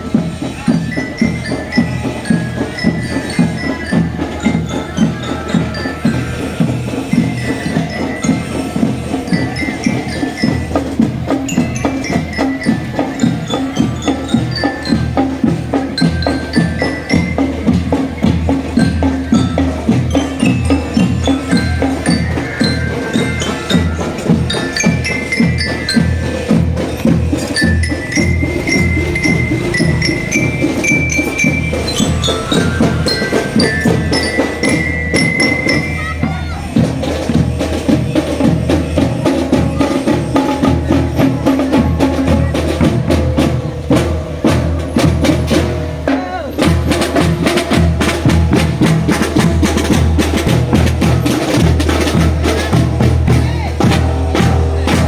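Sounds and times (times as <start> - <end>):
glockenspiel melody: 0.0 - 55.0
marching drums: 0.0 - 55.0.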